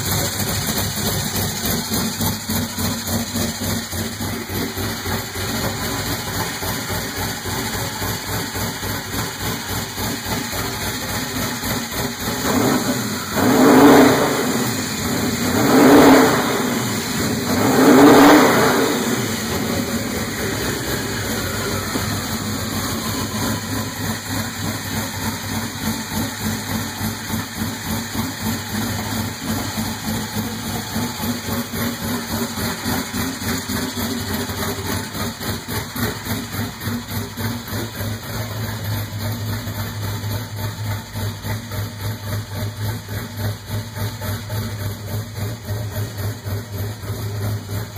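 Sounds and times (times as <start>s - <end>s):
car engine idling with lope: 0.0s - 47.9s
engine revving: 0.0s - 47.9s.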